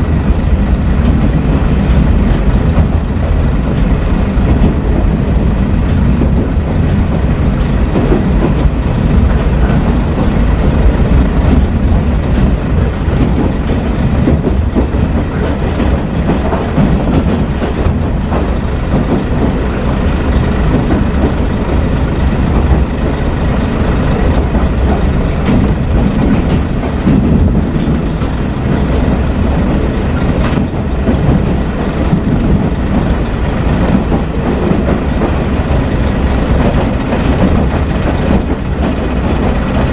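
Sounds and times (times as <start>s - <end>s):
diesel engine: 0.0s - 39.9s
wheels running on rails: 0.0s - 39.9s.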